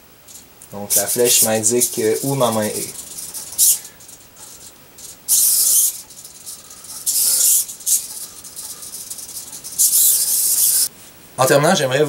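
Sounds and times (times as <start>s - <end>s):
servomotors whirring: 0.2s - 10.9s.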